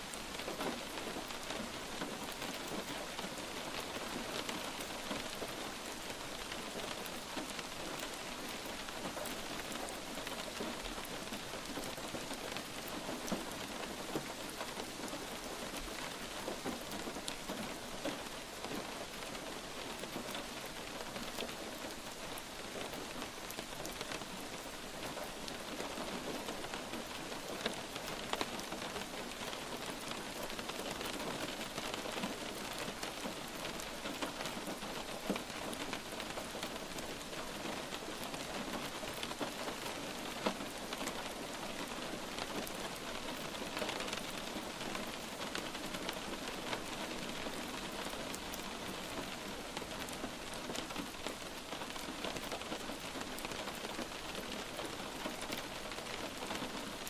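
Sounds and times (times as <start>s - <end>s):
light rain hissing: 0.0s - 57.0s
raindrops ticking: 0.0s - 57.0s.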